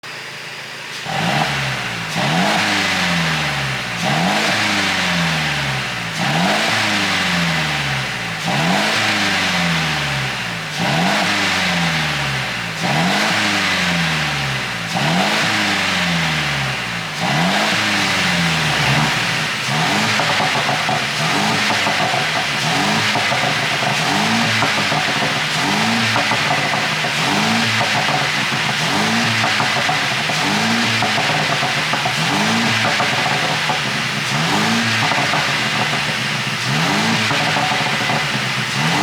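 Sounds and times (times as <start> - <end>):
car engine revving: 0.0 - 39.0
exhaust popping and crackling: 1.0 - 39.0.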